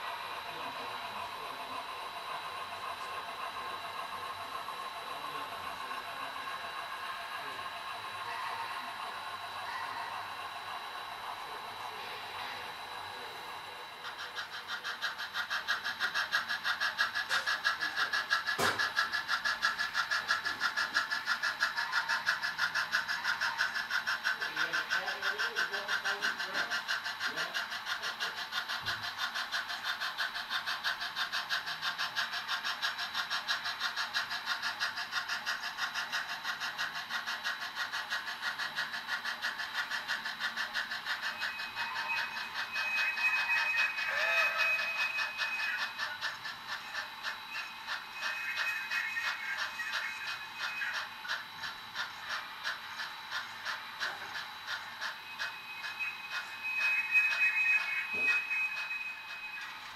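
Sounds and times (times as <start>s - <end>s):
model steam locomotive chuffing: 0.0s - 59.9s.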